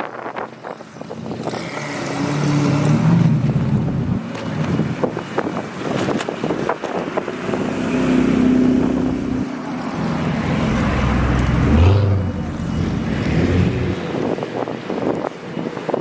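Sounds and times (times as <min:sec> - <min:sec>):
car engines exhaust rumble: 0:00.0 - 0:16.0
wind buffeting microphone: 0:00.0 - 0:16.0.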